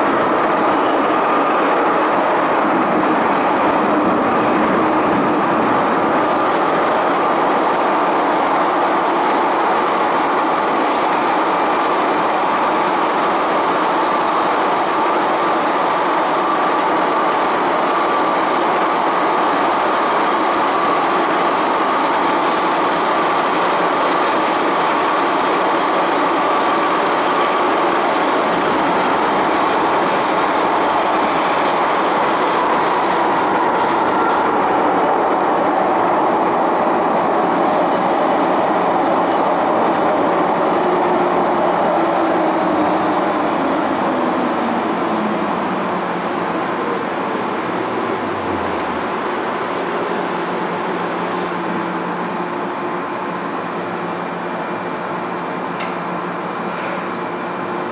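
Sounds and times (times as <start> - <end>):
train running and braking: 0.0 - 57.9.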